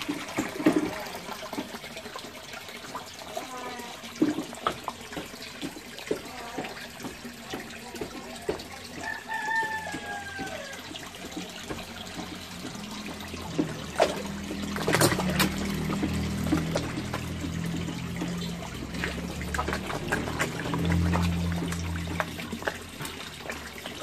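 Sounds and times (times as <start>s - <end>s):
fish splashing and slurping: 0.0s - 24.0s.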